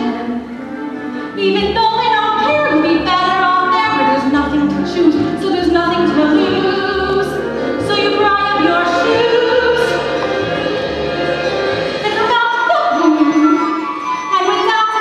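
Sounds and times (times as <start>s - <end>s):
woman singing: 0.0s - 0.5s, 1.4s - 10.2s, 12.0s - 15.0s
instrumental accompaniment: 0.0s - 15.0s.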